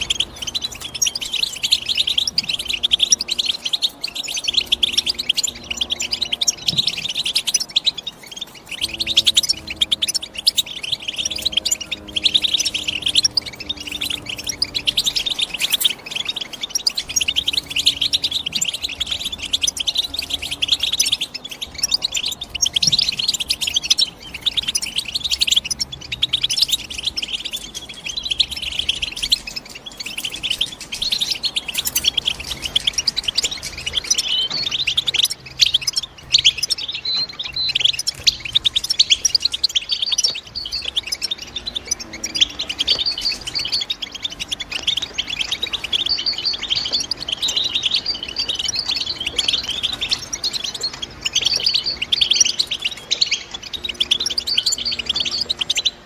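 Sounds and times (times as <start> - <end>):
goldfinch twittering song: 0.0 - 56.0.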